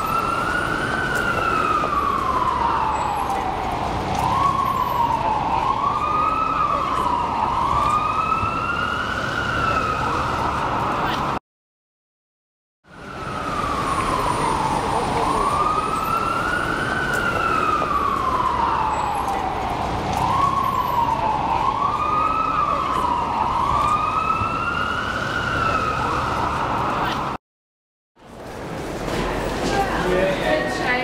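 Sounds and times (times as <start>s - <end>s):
emergency siren wailing: 0.0s - 11.4s, 12.8s - 27.4s.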